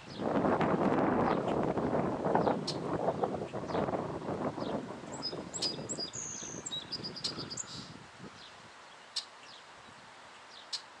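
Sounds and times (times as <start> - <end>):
small birds chirping: 1.2 - 1.7, 2.3 - 11.0.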